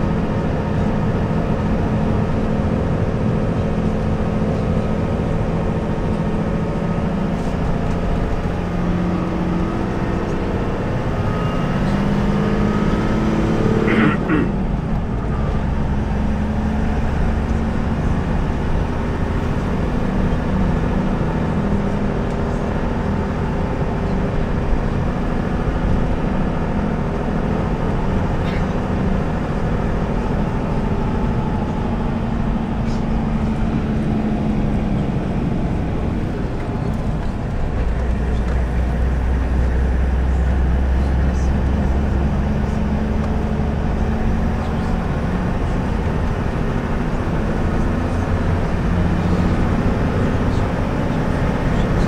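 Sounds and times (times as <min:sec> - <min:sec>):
road noise: 0:00.0 - 0:52.0
vehicle engine: 0:00.0 - 0:52.0.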